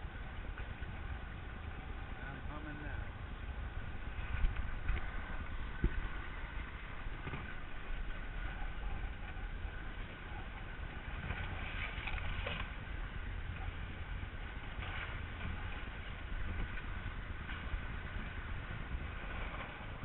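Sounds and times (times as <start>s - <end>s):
wind and water noise: 0.0s - 20.0s.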